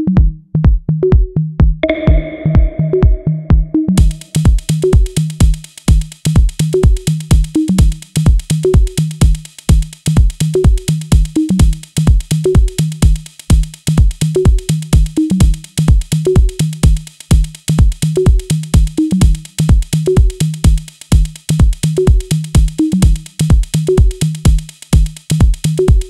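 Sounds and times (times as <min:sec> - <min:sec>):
electronic drum-machine music: 0:01.1 - 0:26.0.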